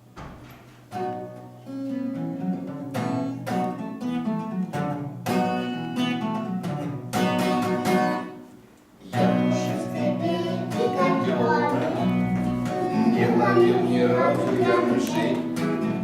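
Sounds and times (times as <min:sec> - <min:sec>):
plucked acoustic guitar chords: 0:00.9 - 0:16.0.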